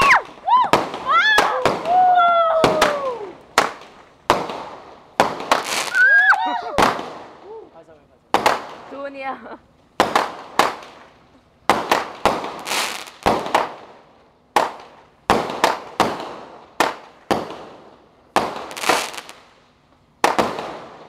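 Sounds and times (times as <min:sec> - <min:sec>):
fireworks bangs echoing: 0:00.0 - 0:07.6, 0:08.3 - 0:09.3, 0:10.0 - 0:21.0.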